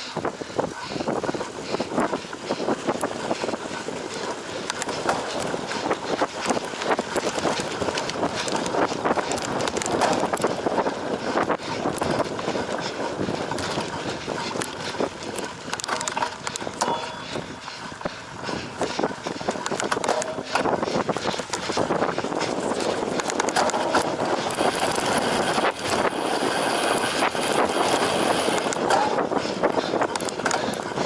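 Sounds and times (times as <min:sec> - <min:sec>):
bike chain and frame rattling: 0:00.0 - 0:31.0
bike tyres rumbling on dirt: 0:00.0 - 0:31.0.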